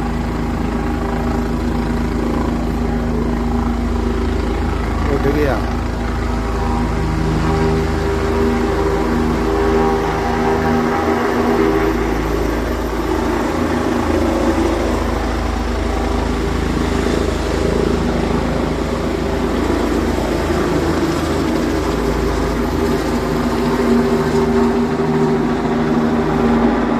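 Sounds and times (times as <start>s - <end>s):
helicopter engine and rotor: 0.0s - 26.9s.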